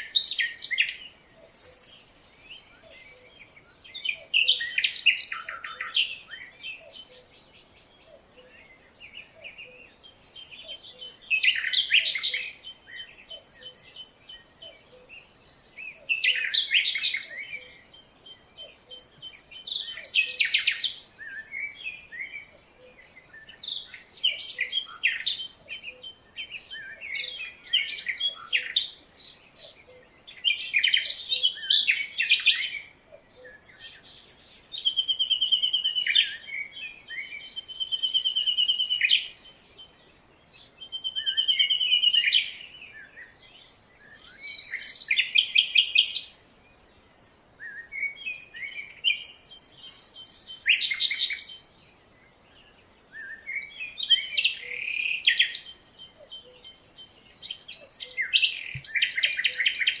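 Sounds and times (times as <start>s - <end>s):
birds singing: 0.0s - 60.0s.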